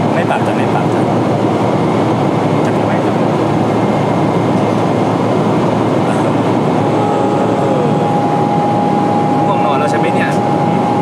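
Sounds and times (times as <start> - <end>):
airliner cabin roar: 0.0 - 11.0
faint steady whine: 0.0 - 11.0.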